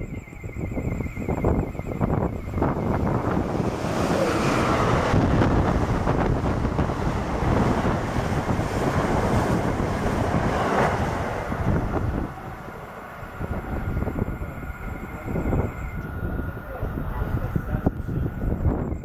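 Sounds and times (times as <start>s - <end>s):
passenger train passing: 0.0s - 19.0s
wind buffeting microphone: 0.0s - 19.0s.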